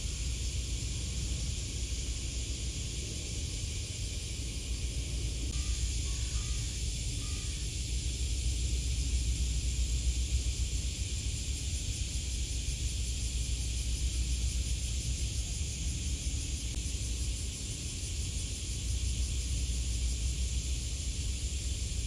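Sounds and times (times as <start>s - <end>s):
high hiss: 0.0s - 22.0s.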